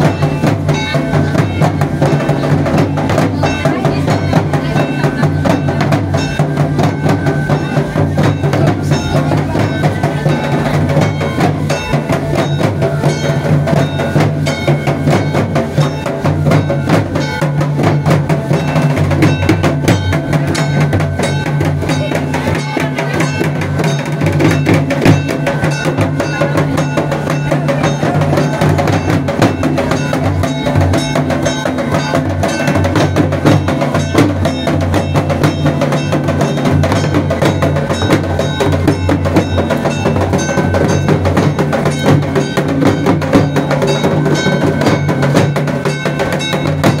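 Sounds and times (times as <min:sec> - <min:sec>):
barrel drums beaten fast: 0:00.0 - 0:47.0
metallic ringing: 0:00.0 - 0:47.0.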